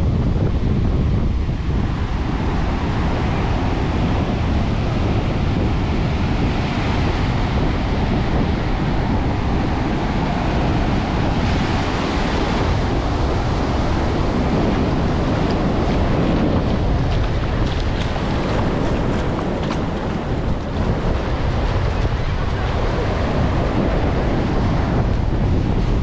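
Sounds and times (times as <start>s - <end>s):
wind buffeting microphone: 0.0s - 26.0s
ocean surf breaking on sand: 1.4s - 26.0s.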